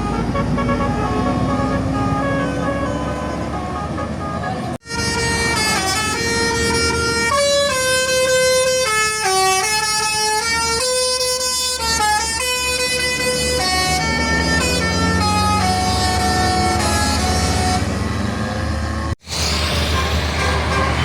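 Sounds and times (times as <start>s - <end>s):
bus horn playing a melody: 0.0s - 18.2s
bus engine rumble: 0.0s - 21.0s.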